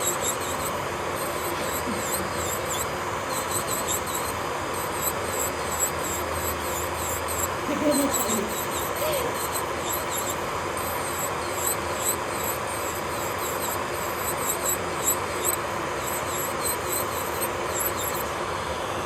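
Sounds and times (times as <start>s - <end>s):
drill bit squeaking on nail: 0.0s - 18.3s
electric nail drill whining: 0.0s - 18.4s.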